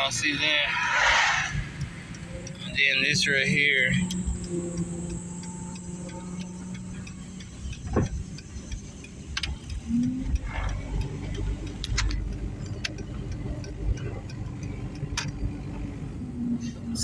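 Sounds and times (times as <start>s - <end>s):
car engine idling: 0.0s - 17.0s
sharp clicks: 1.4s - 16.0s.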